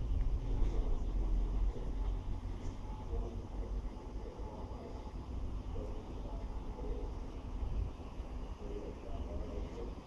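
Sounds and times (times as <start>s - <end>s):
wind rumbling on microphone: 0.0s - 3.9s, 4.7s - 10.0s.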